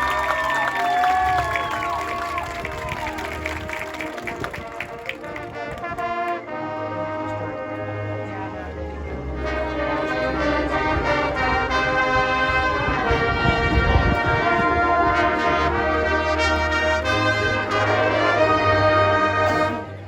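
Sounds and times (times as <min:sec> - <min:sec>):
brass band playing chords: 0:00.0 - 0:20.0.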